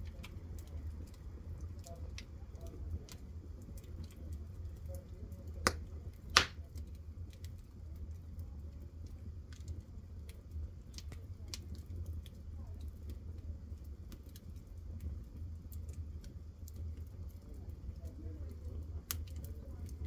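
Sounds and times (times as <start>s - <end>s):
fire popping: 0.0s - 20.0s
low fire rumble: 0.0s - 20.0s
wood fire crackling: 0.0s - 20.0s.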